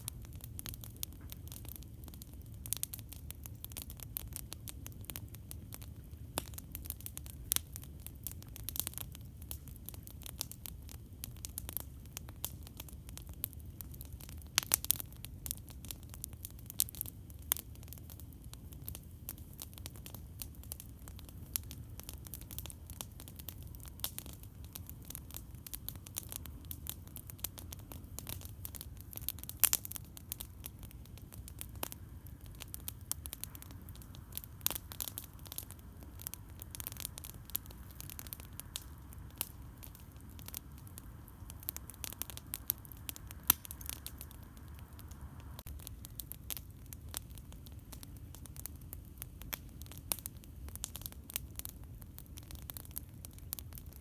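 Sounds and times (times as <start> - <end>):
campfire wood popping and snapping: 0.0 - 54.0.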